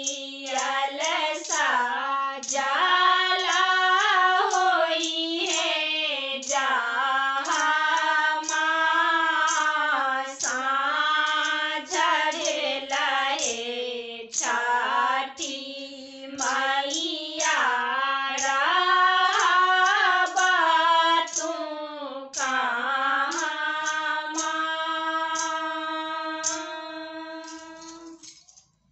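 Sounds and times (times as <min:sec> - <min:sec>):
women singing folk song unaccompanied: 0:00.0 - 0:28.3.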